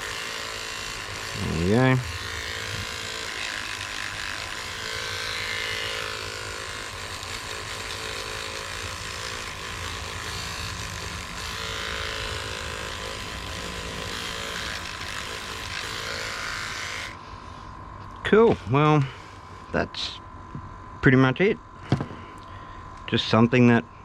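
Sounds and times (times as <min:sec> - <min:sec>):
small electric sander buzzing: 0:00.0 - 0:20.2.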